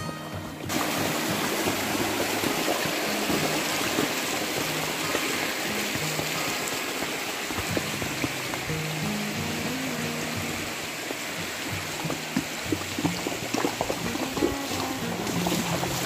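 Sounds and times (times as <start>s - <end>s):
rushing water: 0.0s - 16.0s
soft background music: 0.0s - 16.0s.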